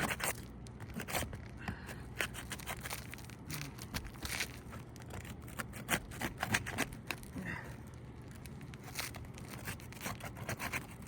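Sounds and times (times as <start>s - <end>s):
shingles cracking and tearing: 0.0s - 11.0s.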